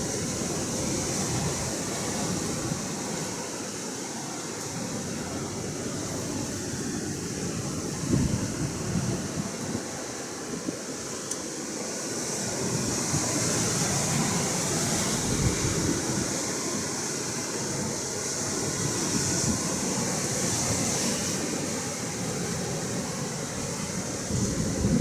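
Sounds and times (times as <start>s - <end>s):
ocean waves and surf: 0.0s - 25.0s
wind rumbling on microphone: 0.0s - 25.0s.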